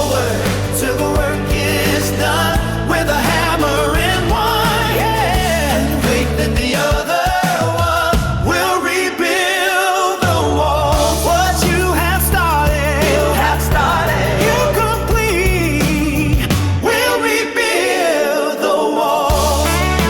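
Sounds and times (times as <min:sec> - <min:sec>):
band playing pop music: 0:00.0 - 0:18.2, 0:19.2 - 0:20.0
person singing: 0:00.0 - 0:20.0.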